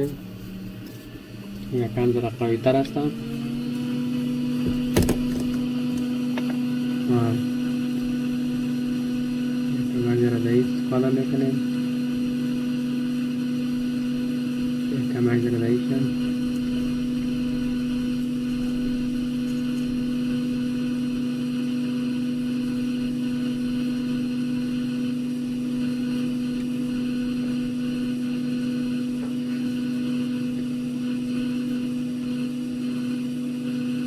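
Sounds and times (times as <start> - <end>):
blower fan humming: 0.0 - 34.0.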